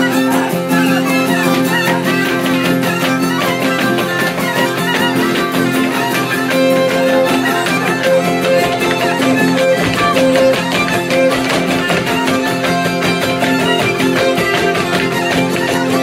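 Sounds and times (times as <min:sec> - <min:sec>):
fiddle playing dance tune: 0:00.0 - 0:16.0
rhythmic accompaniment: 0:00.0 - 0:16.0.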